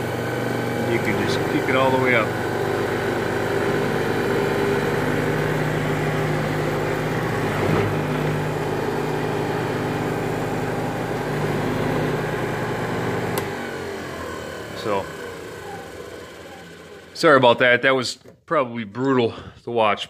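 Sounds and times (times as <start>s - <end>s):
bench grinder motor hum: 0.0s - 17.9s.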